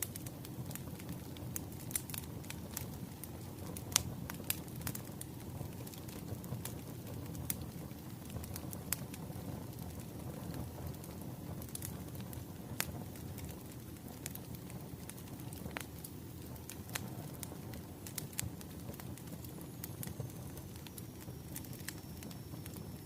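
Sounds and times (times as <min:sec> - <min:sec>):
low rumble of burning logs: 0:00.0 - 0:23.0
wood fire crackling: 0:00.0 - 0:23.0.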